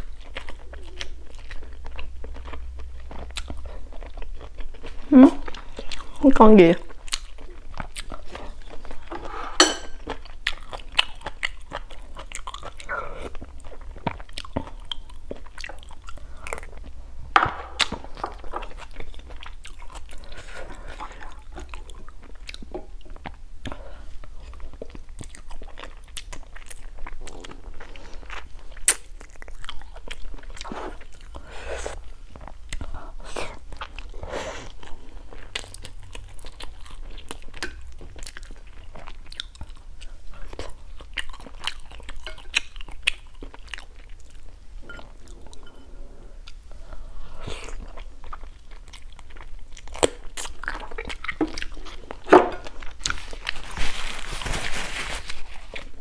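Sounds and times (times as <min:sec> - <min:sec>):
chewing and crunching: 0:00.0 - 0:17.0, 0:17.8 - 0:56.0.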